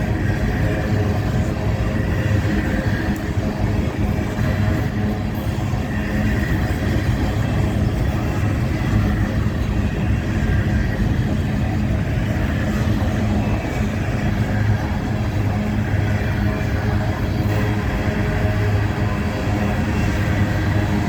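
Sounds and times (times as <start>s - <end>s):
freight train cars rumbling: 0.0s - 21.0s
train engine drone: 0.0s - 21.0s.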